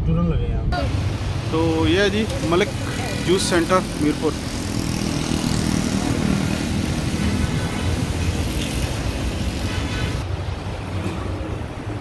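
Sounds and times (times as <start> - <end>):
vehicle rumble: 0.0 - 12.0
traffic hiss: 0.8 - 12.0.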